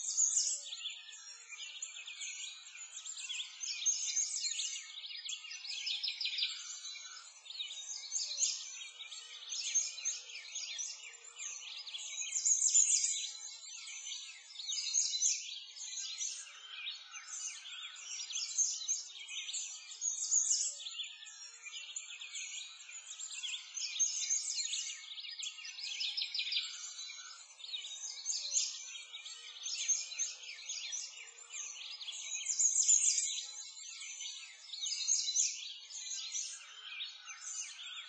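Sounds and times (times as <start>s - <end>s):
songbirds chirping and trilling: 0.0s - 38.0s.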